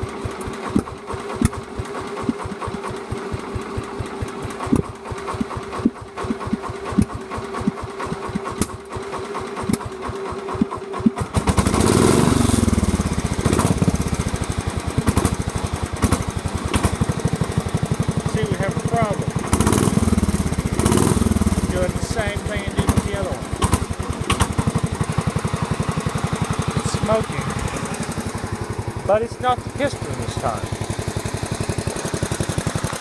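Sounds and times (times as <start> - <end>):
small engine idling and revving: 0.0 - 33.0.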